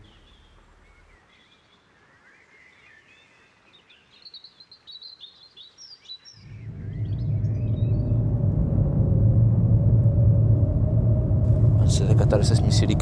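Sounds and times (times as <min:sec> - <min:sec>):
woodland ambience: 0:00.0 - 0:13.0.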